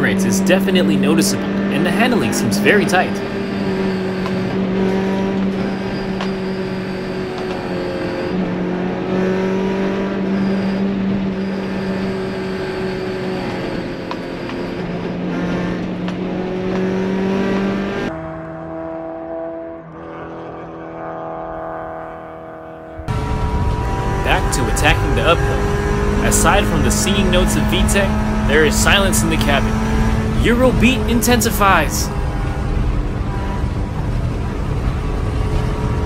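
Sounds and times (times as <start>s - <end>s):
car engine running: 0.0s - 36.0s
road noise: 0.0s - 36.0s.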